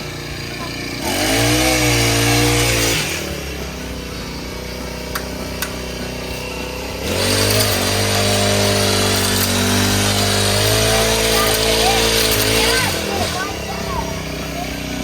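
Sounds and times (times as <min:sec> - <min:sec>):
hedge trimmer engine revving: 0:00.0 - 0:15.0.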